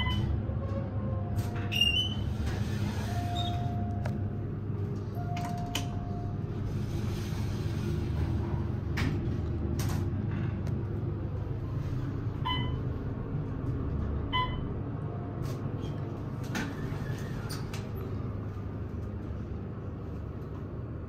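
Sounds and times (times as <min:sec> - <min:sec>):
elevator doors closing: 0:00.0 - 0:21.0
elevator running rumble: 0:00.0 - 0:21.0.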